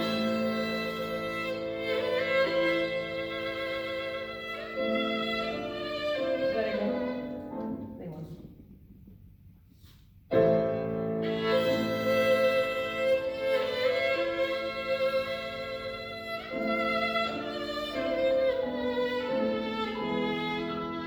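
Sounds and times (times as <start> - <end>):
violin melody: 0.0 - 7.9, 10.3 - 21.0
piano accompaniment: 0.0 - 8.9, 10.2 - 21.0.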